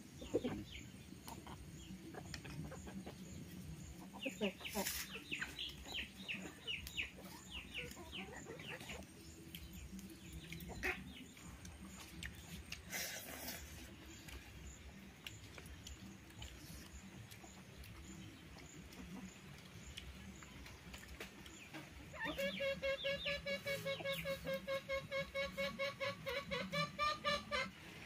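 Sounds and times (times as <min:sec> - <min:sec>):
chickens chirping: 0:00.0 - 0:28.0.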